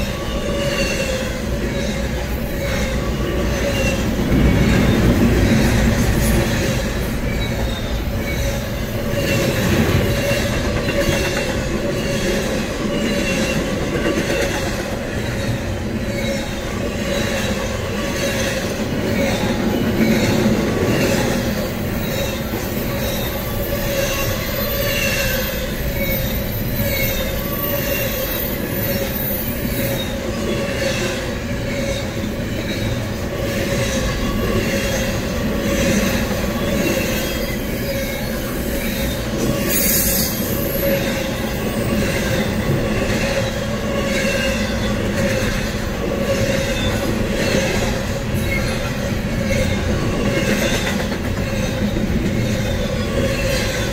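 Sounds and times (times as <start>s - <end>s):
freight train rumbling past: 0.0s - 53.9s
wheel squeal: 0.0s - 53.9s.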